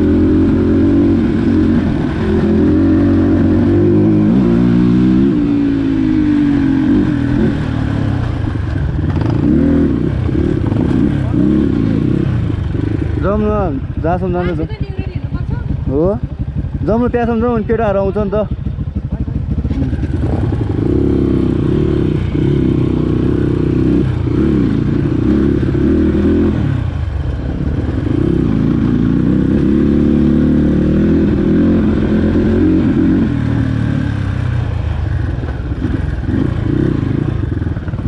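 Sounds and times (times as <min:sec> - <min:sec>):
dirt bike engine revving: 0:00.0 - 0:14.1, 0:19.5 - 0:27.0, 0:27.6 - 0:38.0.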